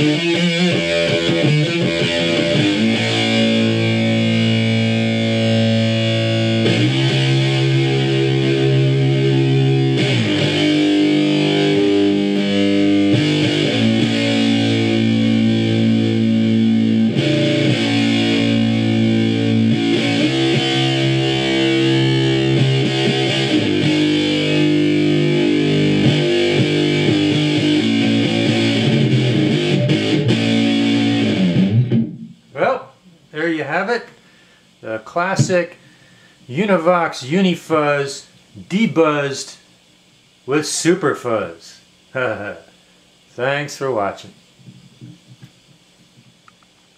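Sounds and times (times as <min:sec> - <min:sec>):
fuzz-distorted electric guitar chords: 0:00.0 - 0:36.7, 0:41.9 - 0:43.0.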